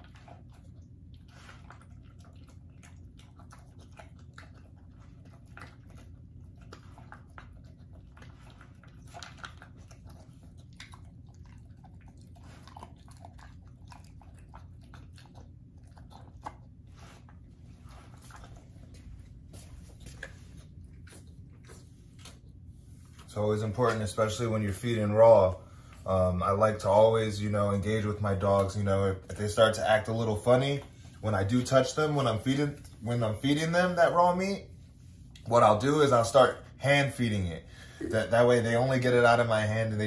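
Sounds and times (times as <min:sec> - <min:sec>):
dog crunching kibble: 0:00.0 - 0:34.4.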